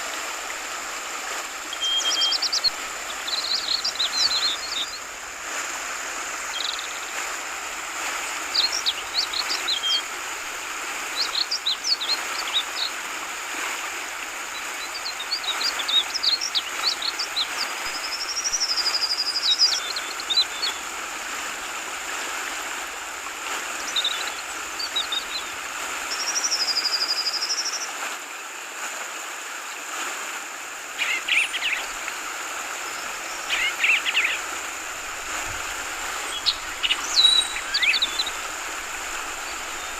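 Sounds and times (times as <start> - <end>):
flowing water babbling: 0.0 - 39.9.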